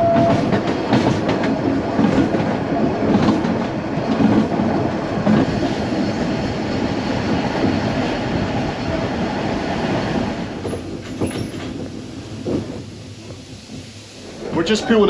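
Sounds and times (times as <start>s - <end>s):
train clunks: 0.0s - 15.0s
train wheels running on track: 0.0s - 15.0s.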